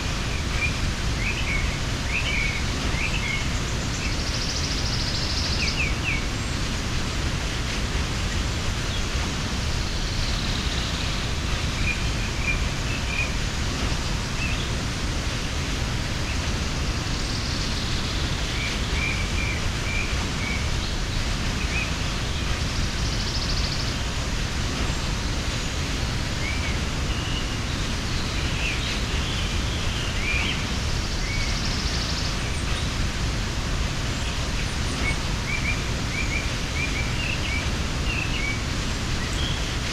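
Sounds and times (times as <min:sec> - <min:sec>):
small birds chirping: 0:00.0 - 0:39.9
waterfall rushing: 0:00.0 - 0:39.9.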